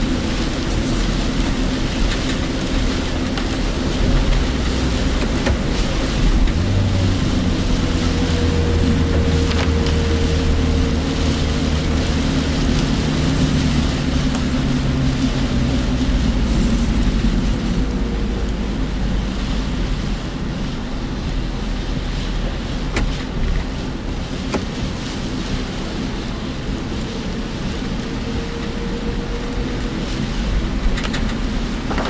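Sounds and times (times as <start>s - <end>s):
low engine hum: 0.0s - 32.0s
road and rain noise: 0.0s - 32.0s
wind: 0.0s - 32.0s.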